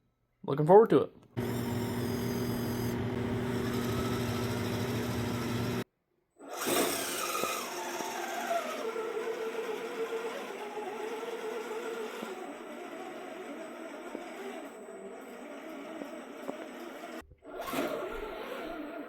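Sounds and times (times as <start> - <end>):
toy car motor and gearbox whine: 1.4 - 5.8, 6.4 - 19.0.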